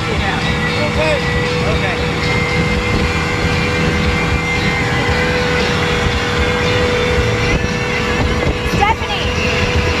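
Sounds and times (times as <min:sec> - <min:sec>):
outboard motor whining: 0:00.0 - 0:10.0
rushing water: 0:00.0 - 0:10.0
wind: 0:00.0 - 0:10.0.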